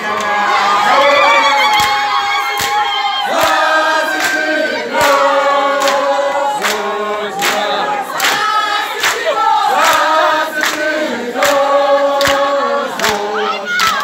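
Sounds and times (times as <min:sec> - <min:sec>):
crowd singing in harmony: 0:00.0 - 0:14.0.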